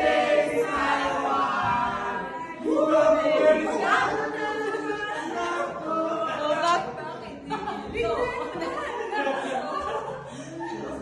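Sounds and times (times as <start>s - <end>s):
group singing unaccompanied: 0.0s - 9.5s.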